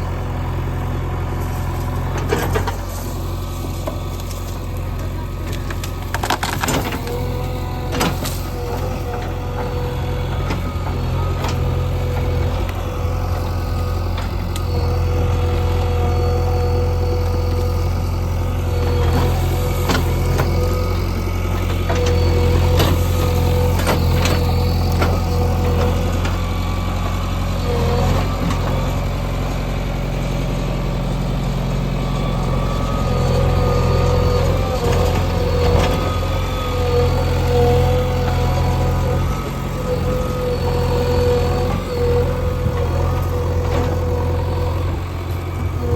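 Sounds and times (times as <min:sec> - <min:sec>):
diesel engine droning: 0:00.0 - 0:45.9.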